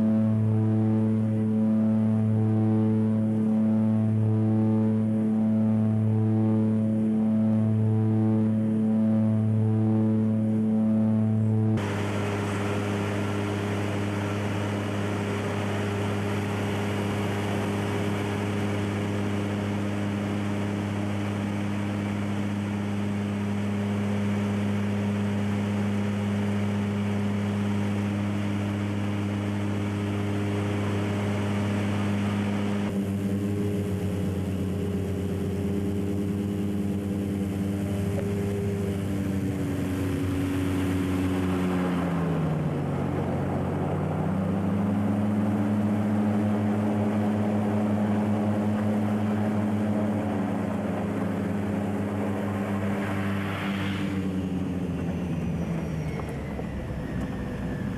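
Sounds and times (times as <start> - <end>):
propeller aircraft engines droning: 0.0 - 57.9.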